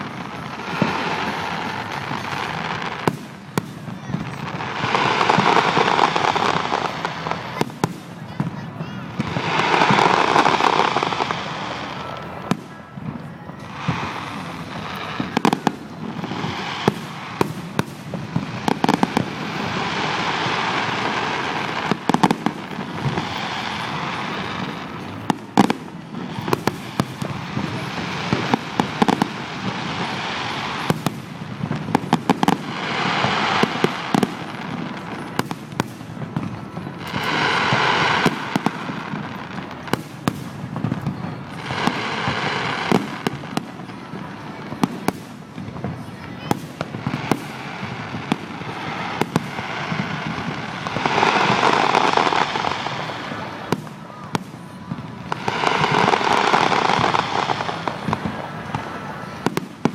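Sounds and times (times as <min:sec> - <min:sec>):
fireworks bangs: 0:00.0 - 0:59.9
rushing crackling fireworks: 0:00.0 - 0:59.9.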